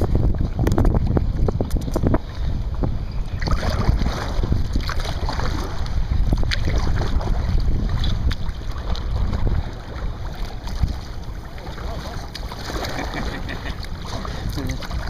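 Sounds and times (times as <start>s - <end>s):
water splashing and sloshing: 0.0s - 15.0s
wind buffeting microphone: 0.0s - 15.0s.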